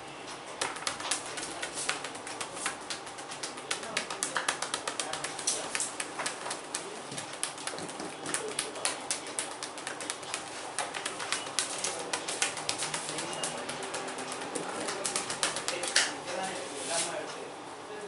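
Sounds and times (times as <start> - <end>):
hands slapping bare skin: 0.6 - 16.2.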